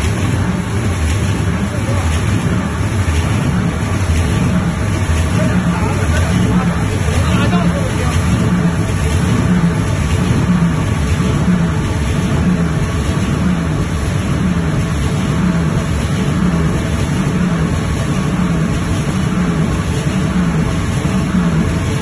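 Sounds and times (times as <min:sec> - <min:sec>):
pulsing low machine hum: 0:00.0 - 0:22.0
reeling machine running: 0:00.0 - 0:22.0.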